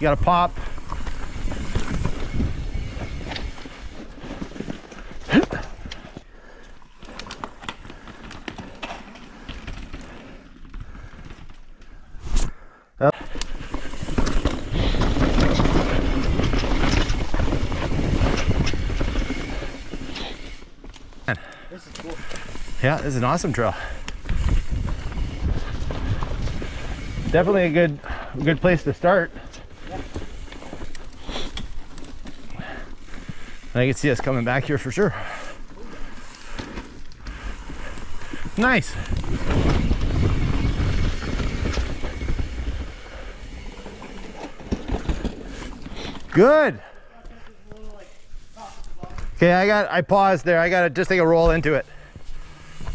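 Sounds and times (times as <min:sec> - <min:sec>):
bike rattling and clattering: 0:00.0 - 0:12.2, 0:13.1 - 0:47.0, 0:50.6 - 0:52.9
bike tyres rumbling on dirt: 0:00.0 - 0:12.2, 0:13.1 - 0:47.0, 0:47.6 - 0:52.9.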